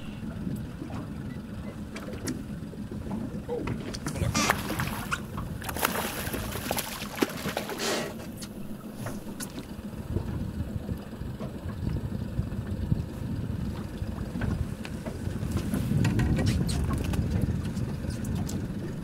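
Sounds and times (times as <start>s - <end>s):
low steady rumble: 0.0s - 19.0s
water splashing beside boat: 0.0s - 19.0s.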